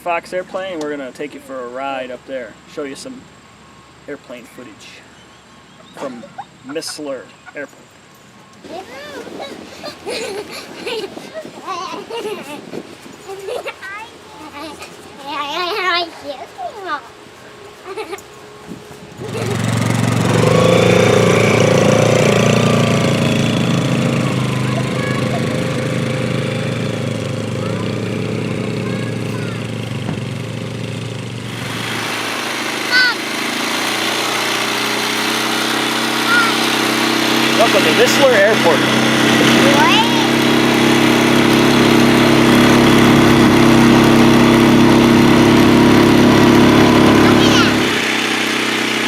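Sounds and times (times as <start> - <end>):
small engine running: 5.6 - 49.0.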